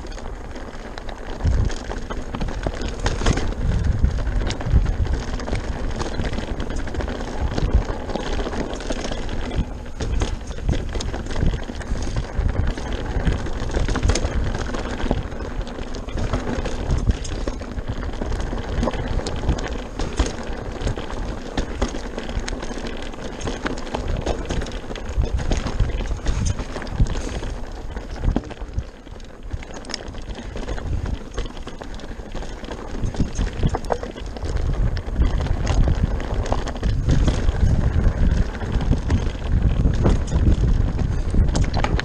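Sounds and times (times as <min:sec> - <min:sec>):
bike rattling on rocks: 0:00.0 - 0:42.0
tyres crunching over stones: 0:00.0 - 0:42.0.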